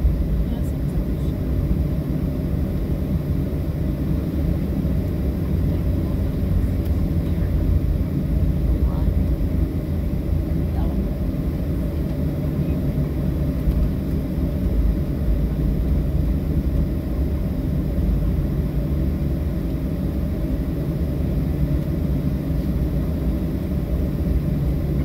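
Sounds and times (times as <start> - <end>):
jet engines low rumble: 0.0 - 25.0.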